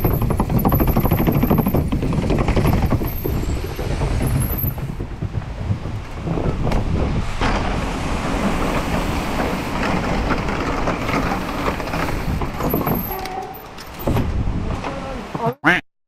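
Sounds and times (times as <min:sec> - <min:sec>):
bike tyres clattering on planks: 0:00.0 - 0:13.2.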